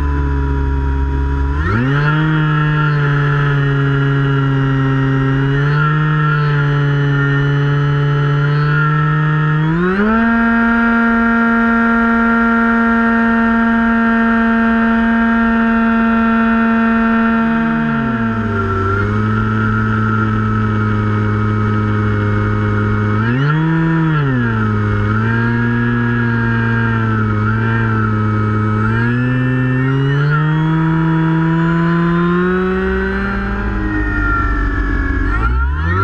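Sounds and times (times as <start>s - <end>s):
electric motor propeller whining: 0.0s - 36.0s.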